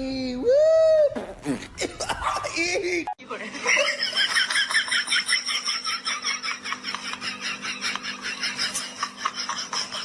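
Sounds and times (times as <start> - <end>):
person laughing: 1.1 - 10.0.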